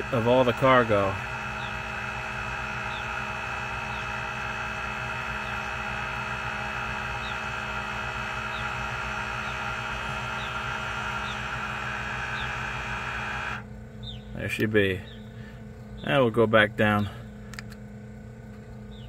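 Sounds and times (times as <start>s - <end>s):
air compressor humming: 0.0s - 19.0s.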